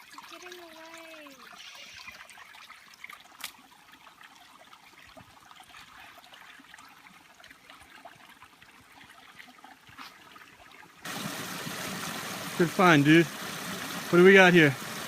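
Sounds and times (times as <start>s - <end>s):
creek trickling over rocks: 0.0s - 15.0s.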